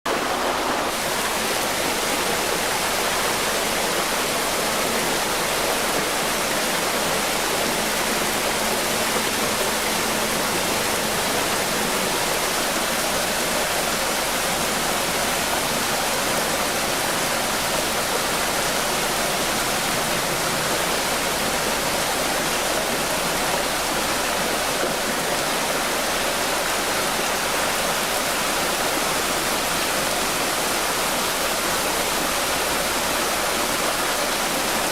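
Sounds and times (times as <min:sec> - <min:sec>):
floodwater torrent roaring: 0:00.1 - 0:34.9.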